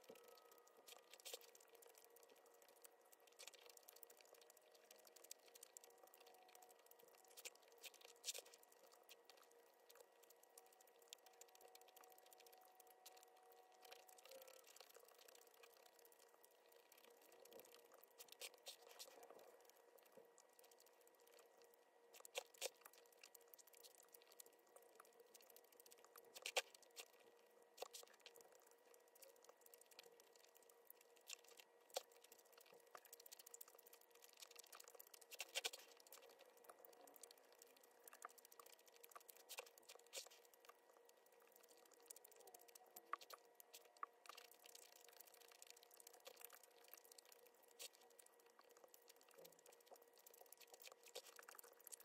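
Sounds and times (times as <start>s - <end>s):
eating sounds: 0.0s - 52.0s
faint steady hum: 0.0s - 52.0s.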